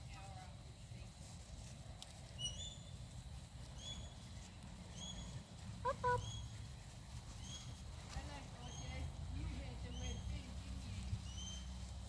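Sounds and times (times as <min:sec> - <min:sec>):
bird chirping: 0:02.3 - 0:12.0.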